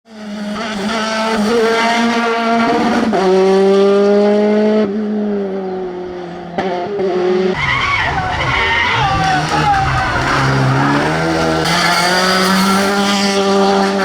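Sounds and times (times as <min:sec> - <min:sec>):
rally car engine at high revs: 0:00.0 - 0:14.0.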